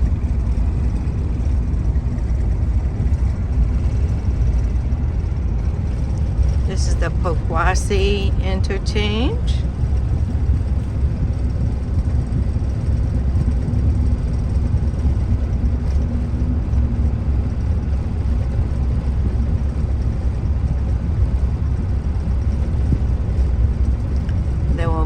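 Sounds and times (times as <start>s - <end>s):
car driving road noise: 0.0s - 25.0s
faint steady hum: 0.0s - 25.0s.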